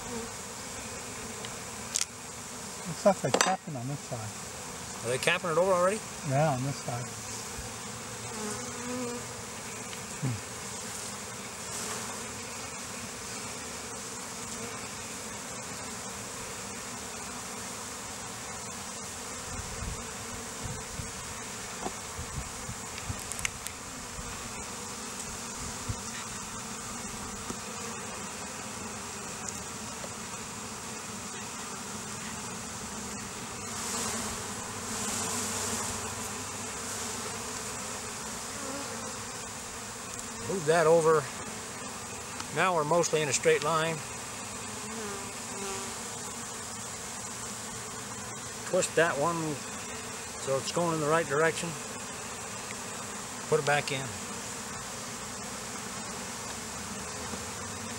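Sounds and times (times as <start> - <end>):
honeybees buzzing: 0.0 - 57.9.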